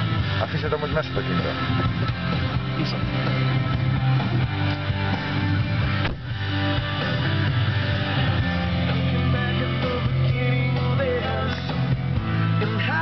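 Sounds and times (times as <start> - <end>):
guitar music on car stereo: 0.0 - 13.0.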